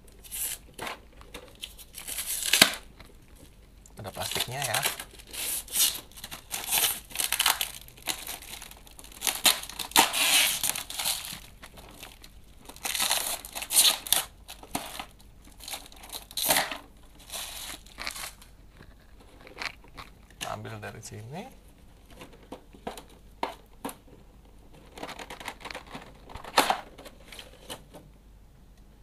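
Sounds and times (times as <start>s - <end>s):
plastic wrapping crinkling: 0.0s - 28.0s.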